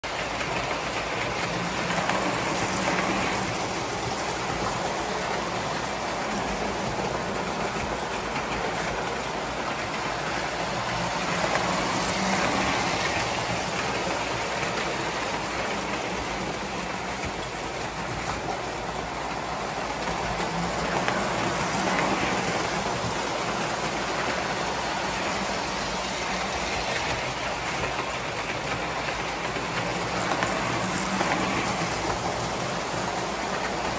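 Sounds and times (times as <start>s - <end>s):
toy train wheels clattering on track: 0.0s - 33.9s.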